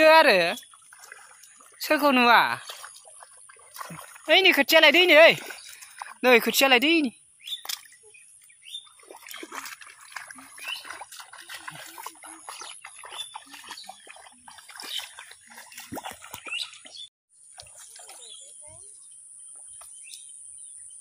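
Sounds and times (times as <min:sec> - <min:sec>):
bare feet splashing through mud water: 0:00.0 - 0:20.2.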